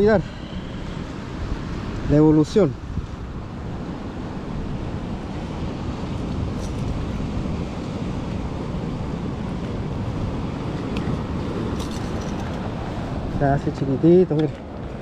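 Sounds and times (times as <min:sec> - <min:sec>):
surf washing on beach: 0:00.0 - 0:15.0
wind rumbling on microphone: 0:00.0 - 0:15.0.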